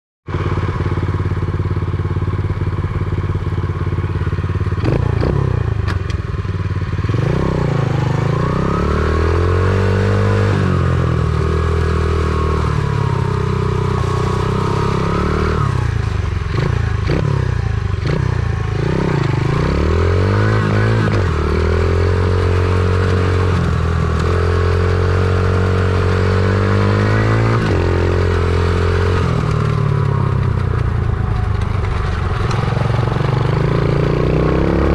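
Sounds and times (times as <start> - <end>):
motorbike engine revving: 0.4 - 34.9.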